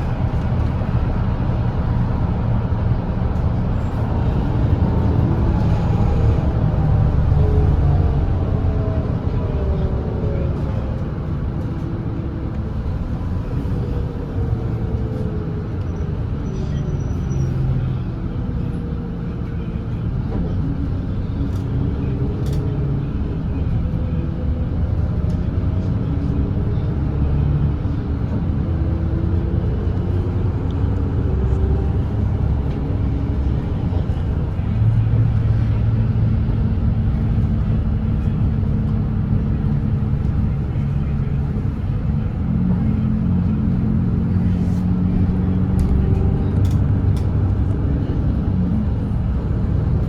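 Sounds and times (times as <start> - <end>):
bus diesel engine drone: 0.0 - 50.0
road noise: 0.0 - 50.0.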